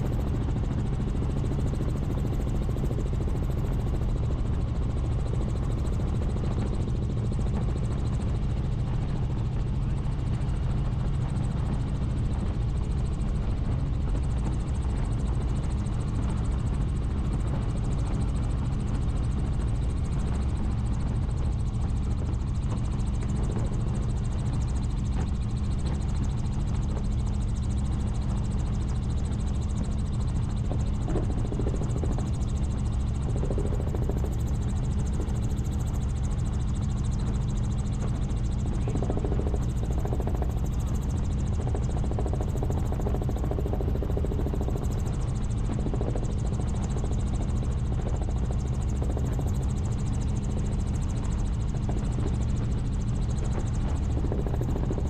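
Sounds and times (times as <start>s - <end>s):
helicopter rotor and turbine drone: 0.0s - 55.0s.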